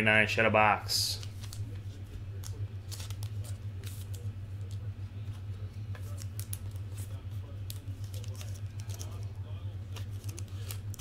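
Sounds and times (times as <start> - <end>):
steady low hum: 0.0 - 11.0
trading cards and wrappers rustling: 1.1 - 11.0.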